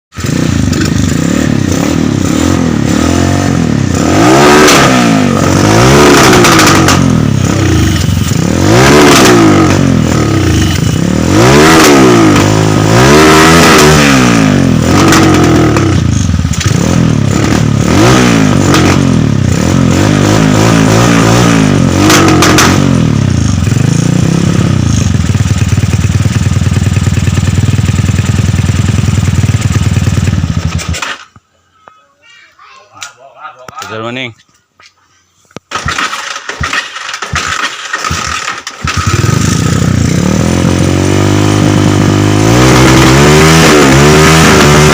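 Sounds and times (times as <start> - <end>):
motorcycle engine revving and idling: 0.1 - 31.5, 35.7 - 44.9.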